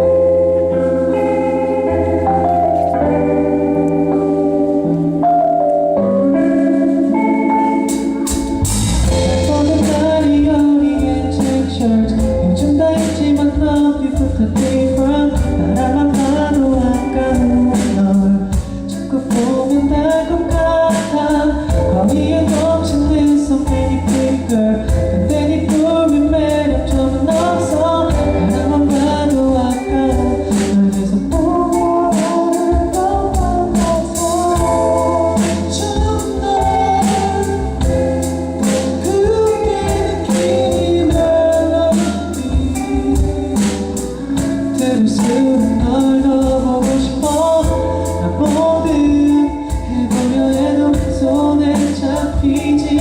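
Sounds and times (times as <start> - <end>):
band with bass and drums: 0.0 - 53.0
man singing: 7.1 - 53.0.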